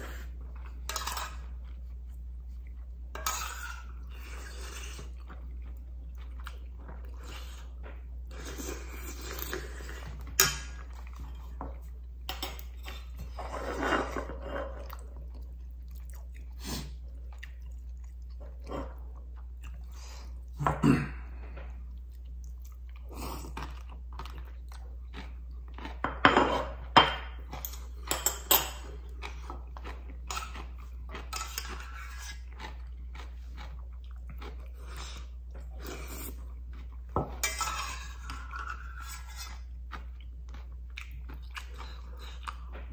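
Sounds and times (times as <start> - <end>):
chewing food: 3.8 - 13.4, 14.2 - 20.6, 21.3 - 28.1, 28.8 - 42.9.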